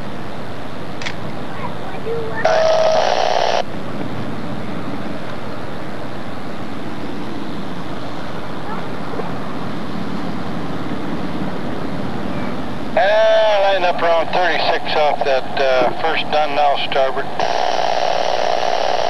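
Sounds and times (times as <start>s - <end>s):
boat engines rumbling: 0.0s - 18.5s.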